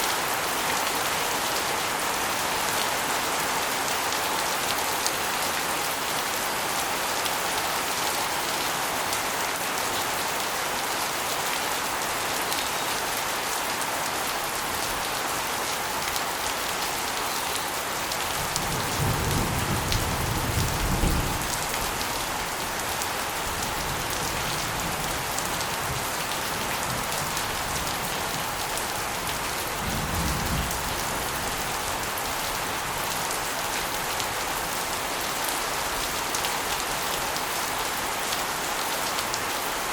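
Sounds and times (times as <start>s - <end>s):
rain water splashing on concrete: 0.0s - 39.9s.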